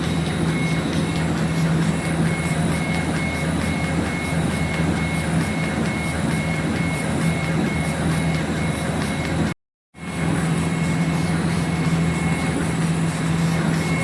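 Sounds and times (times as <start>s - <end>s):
high-pitched machine whine: 0.0s - 14.0s
laser engraving machine hum: 0.0s - 14.0s.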